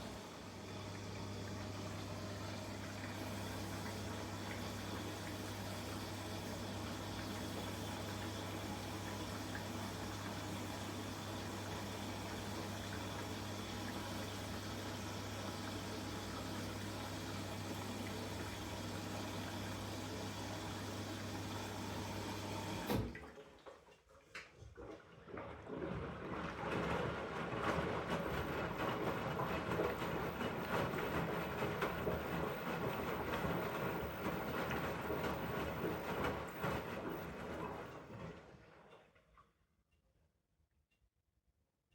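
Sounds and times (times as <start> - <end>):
drain pump hum: 0.0 - 23.4, 25.2 - 39.0.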